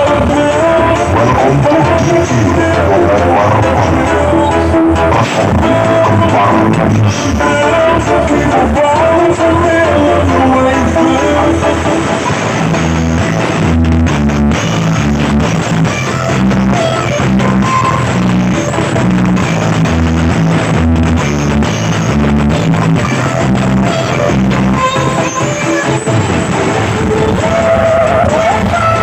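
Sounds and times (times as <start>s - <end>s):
loud music with drums and bass: 0.0s - 29.0s.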